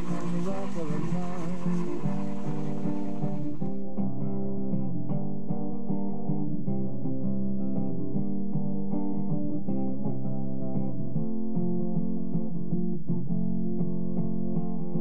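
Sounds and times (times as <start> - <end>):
picked string notes: 0.0 - 15.0
steady bass line: 0.0 - 15.0.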